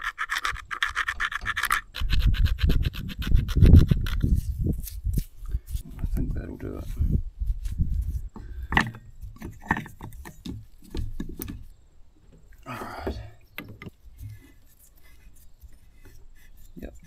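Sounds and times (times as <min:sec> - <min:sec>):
rasping rustle: 0:00.0 - 0:17.0.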